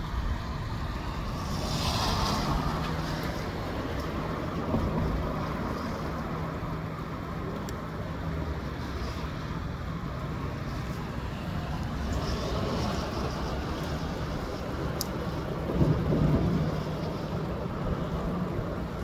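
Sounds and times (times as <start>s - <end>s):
wind buffeting microphone: 0.0s - 19.0s
wind rushing through trees: 0.0s - 19.0s.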